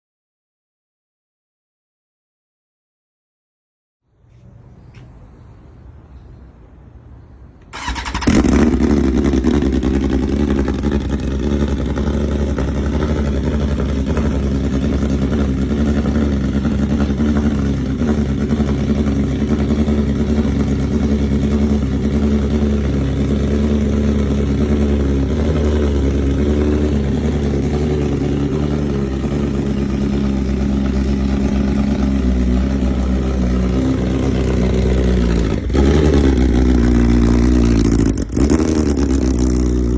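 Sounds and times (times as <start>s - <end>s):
motorcycle engine starting and idling: 7.6s - 39.9s.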